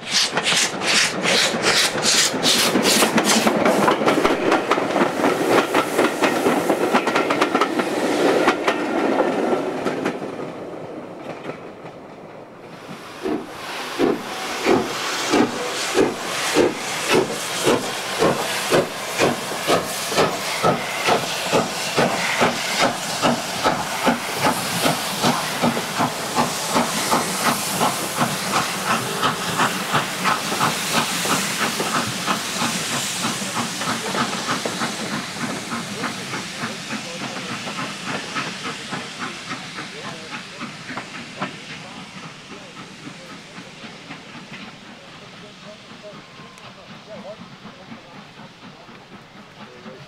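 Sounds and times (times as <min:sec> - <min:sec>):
steam hissing: 0:00.0 - 0:10.7, 0:12.5 - 0:50.0
steam locomotive chuffing: 0:00.0 - 0:50.0.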